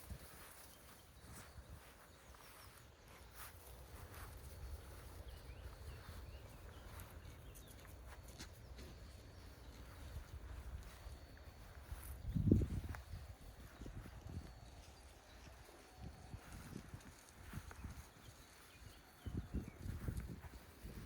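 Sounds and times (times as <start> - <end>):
sheep hoof steps: 2.7 - 21.0.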